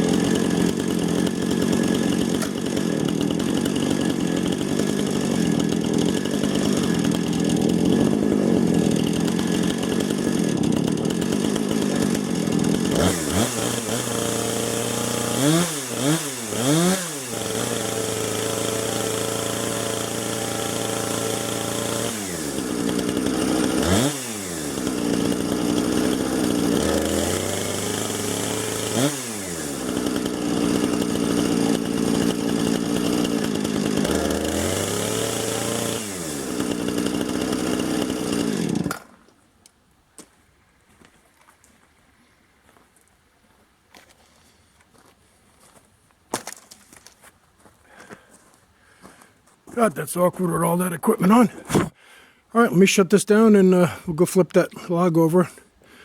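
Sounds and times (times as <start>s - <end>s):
chainsaw ripping a log: 0.0s - 39.4s, 46.3s - 47.3s, 49.0s - 56.0s.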